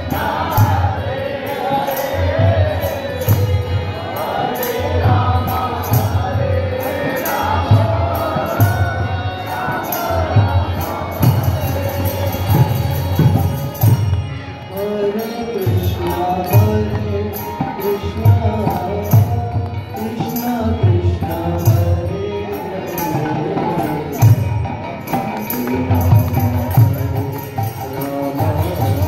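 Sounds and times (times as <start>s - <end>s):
harmonium: 0.0s - 29.0s
voices singing a chant: 0.0s - 29.0s.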